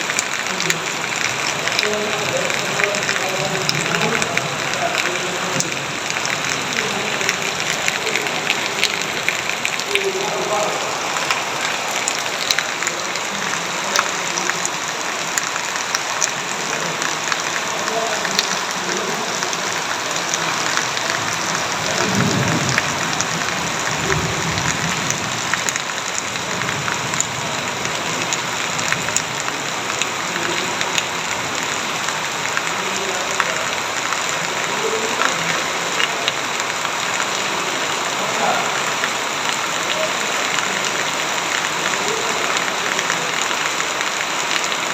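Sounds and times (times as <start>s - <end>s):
heavy rain on hard surface: 0.0s - 44.9s.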